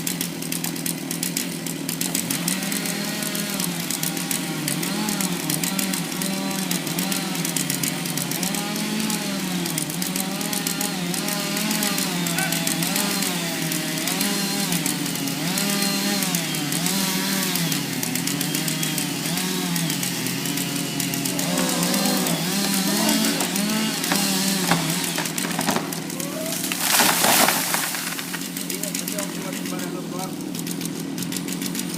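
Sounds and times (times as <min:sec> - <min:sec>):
chainsaw cutting wood: 0:00.0 - 0:31.9.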